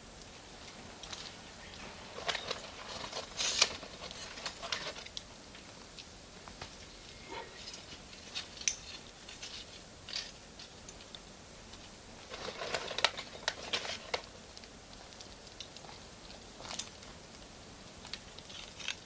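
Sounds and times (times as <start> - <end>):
bonfire crackling: 0.0 - 19.0.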